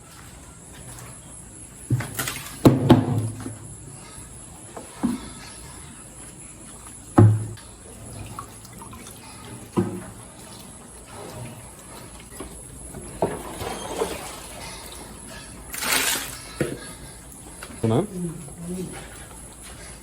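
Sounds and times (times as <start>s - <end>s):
cow slurping wet feed: 0.0s - 20.0s.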